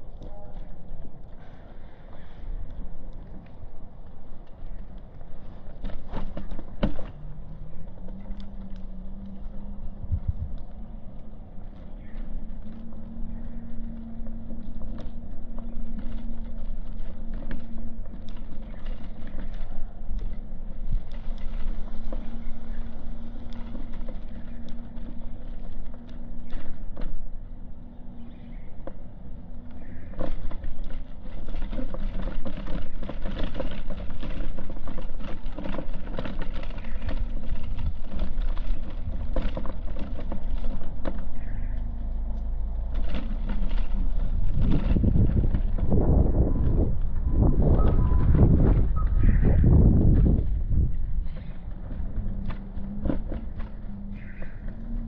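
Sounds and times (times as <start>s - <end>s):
crackling and knocking: 0.0s - 55.0s
low hum: 0.0s - 55.0s
wind rumble on microphone: 0.0s - 55.0s.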